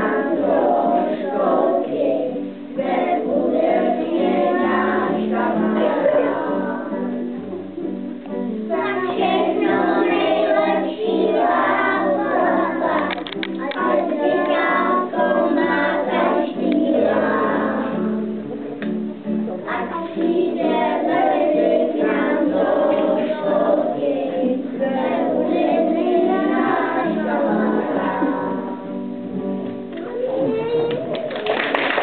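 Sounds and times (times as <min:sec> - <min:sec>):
several voices singing: 0:00.0 - 0:07.1, 0:08.7 - 0:18.2, 0:19.7 - 0:28.8.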